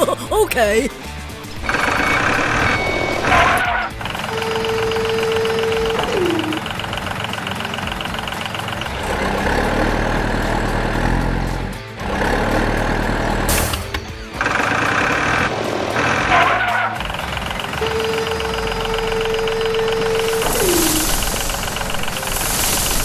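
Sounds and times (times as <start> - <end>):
heavy vehicle engine: 1.0 - 23.0.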